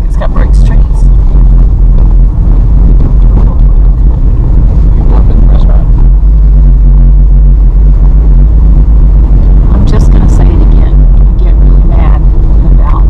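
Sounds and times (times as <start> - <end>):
car tyres rumbling on brick street: 0.0 - 13.0.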